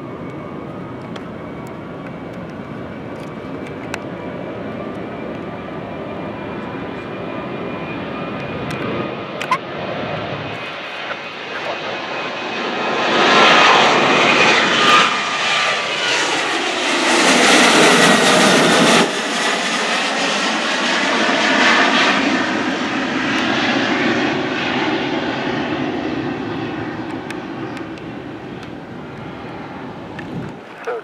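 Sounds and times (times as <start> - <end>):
jet airliner taking off: 0.0 - 31.0.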